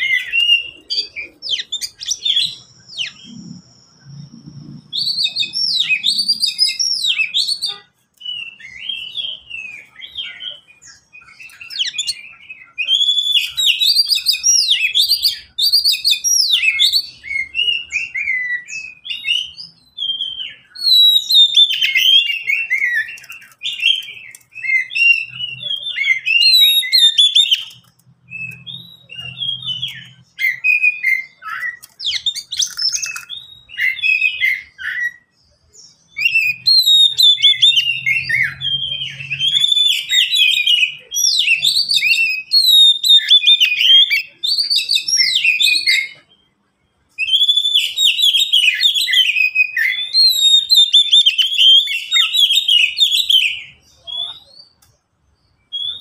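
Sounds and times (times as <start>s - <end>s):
bird singing whistled phrases: 0.0s - 54.8s, 55.6s - 56.0s.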